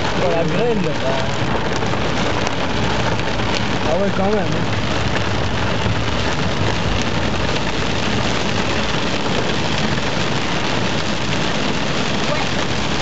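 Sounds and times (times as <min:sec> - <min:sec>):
car running noise: 0:00.0 - 0:13.0
heavy rain on car roof: 0:00.0 - 0:13.0.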